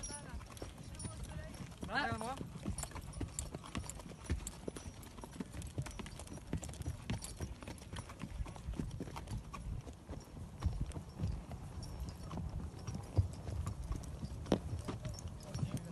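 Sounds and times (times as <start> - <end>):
horse hooves clip-clopping on dirt: 0.0 - 15.9.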